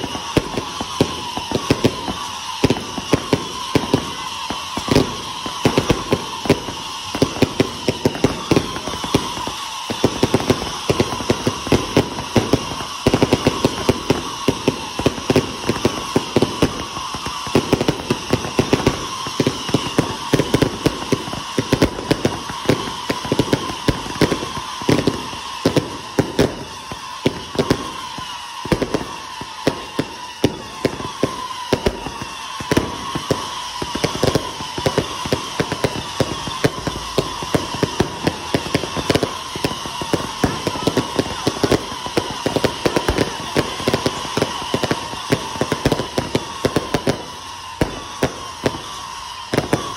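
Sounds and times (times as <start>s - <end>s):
firecrackers crackling: 0.0s - 49.9s
firework whistles sliding down: 0.0s - 49.9s.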